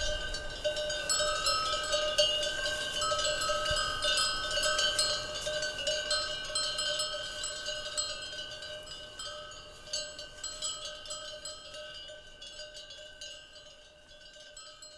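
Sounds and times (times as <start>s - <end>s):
cowbells clanking: 0.0s - 14.9s.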